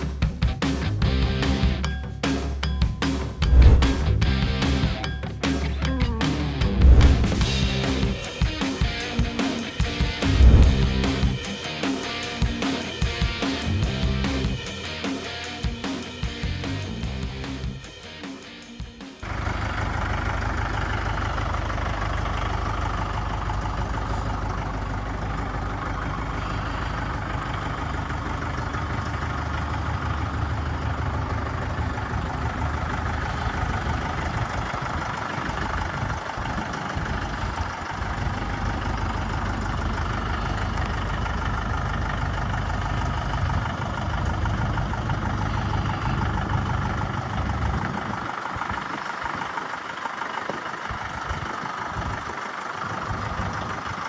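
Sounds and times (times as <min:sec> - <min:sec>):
tractor diesel engine running: 0:00.0 - 0:18.6, 0:19.2 - 0:54.0.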